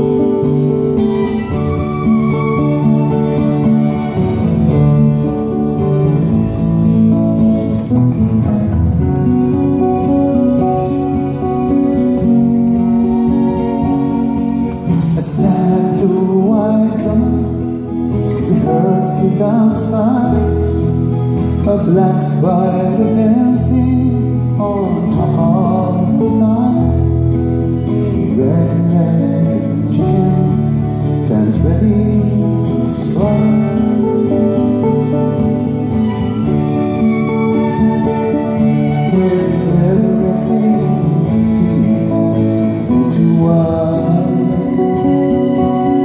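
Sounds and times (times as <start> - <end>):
man singing folk song: 0.0 - 36.4, 37.0 - 46.0
acoustic guitar: 0.0 - 46.0.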